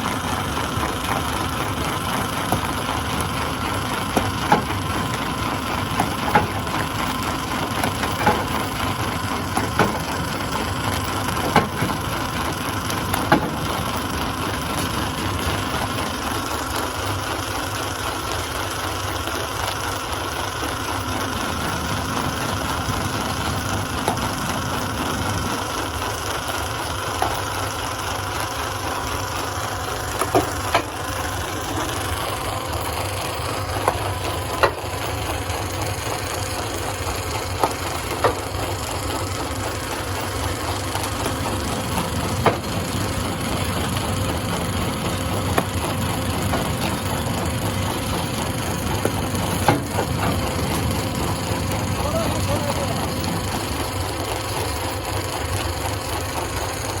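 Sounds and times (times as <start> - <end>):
stone crusher running: 0.0 - 57.0.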